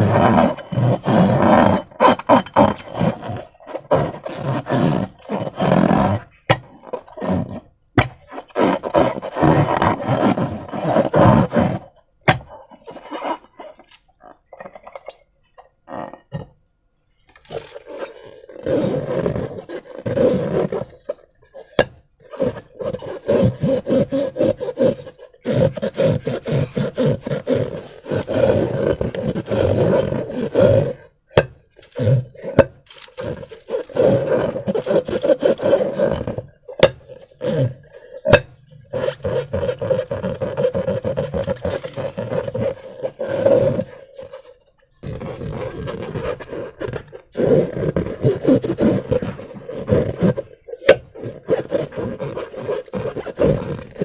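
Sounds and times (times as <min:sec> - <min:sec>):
balloons and slime squeezed: 0:00.0 - 0:16.4, 0:17.1 - 0:54.0.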